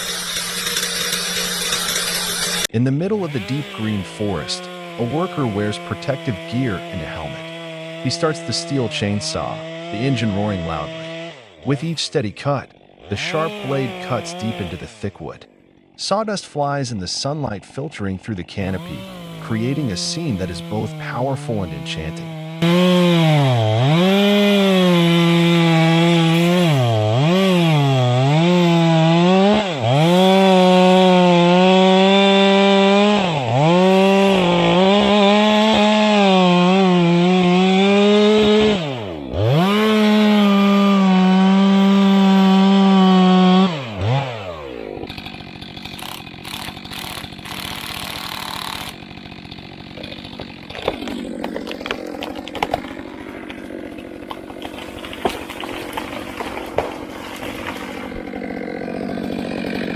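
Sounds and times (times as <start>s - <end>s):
chainsaw cutting tree trunk: 0.0s - 59.9s.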